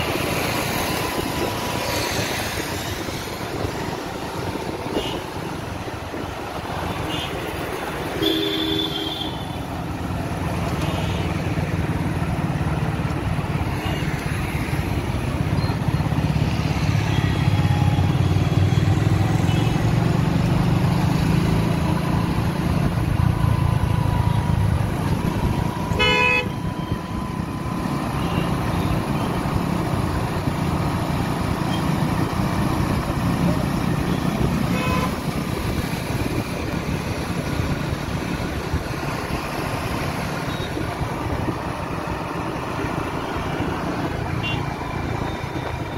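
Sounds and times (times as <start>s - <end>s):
motorcycle engine and wind rumble: 0.0s - 45.9s.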